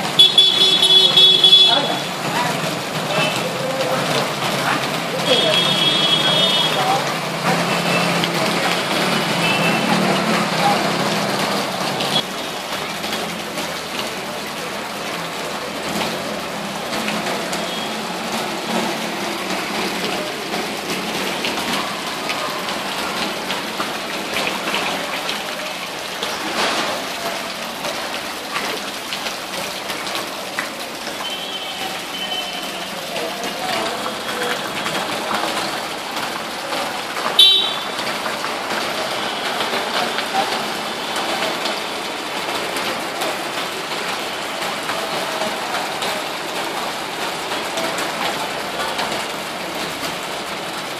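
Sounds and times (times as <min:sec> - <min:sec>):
rain hissing: 0:00.0 - 0:50.9.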